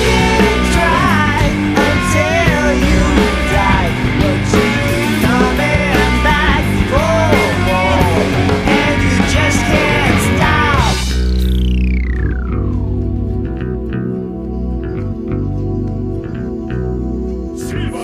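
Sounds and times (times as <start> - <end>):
loud rock music with vocals: 0.0 - 14.0, 17.5 - 18.0.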